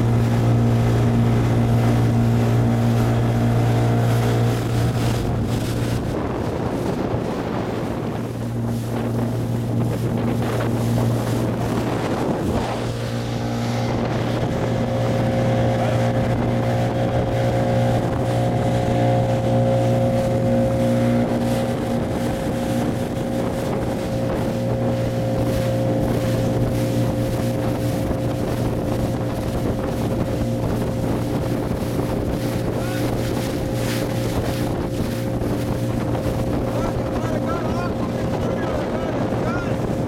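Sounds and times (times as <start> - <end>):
outboard motor running: 0.0 - 40.0
water rushing past hull: 0.0 - 40.0
wind buffeting microphone: 0.0 - 40.0.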